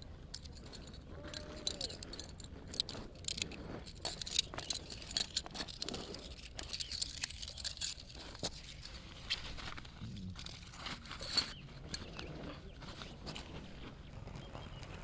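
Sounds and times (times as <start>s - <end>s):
tent gear clicks and rattles: 0.0s - 15.0s.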